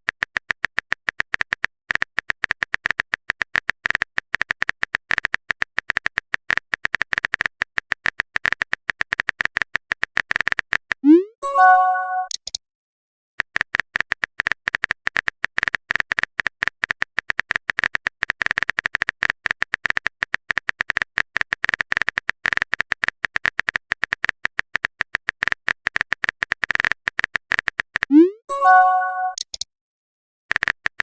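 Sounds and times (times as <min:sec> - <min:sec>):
keyboard typing clicks: 0:00.1 - 0:12.6, 0:13.4 - 0:29.7.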